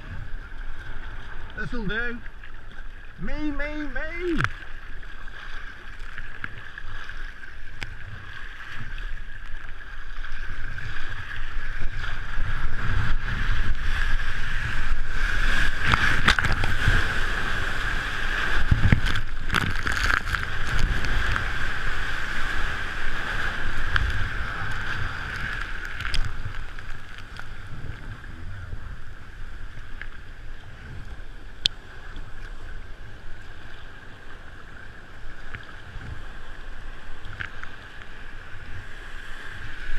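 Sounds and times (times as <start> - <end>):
rushing surf water: 0.0 - 39.9.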